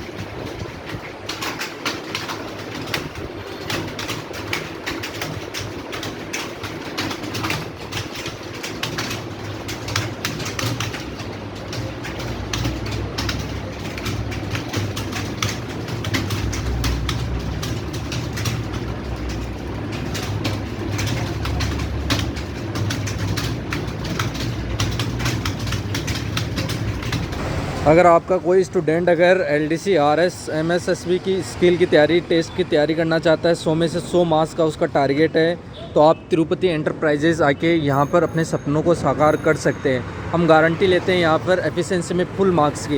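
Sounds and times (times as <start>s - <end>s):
keyboards clattering: 0.0s - 42.9s.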